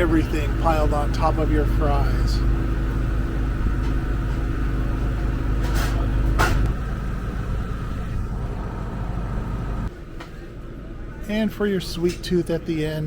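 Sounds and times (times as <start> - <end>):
low engine hum: 0.0 - 11.3.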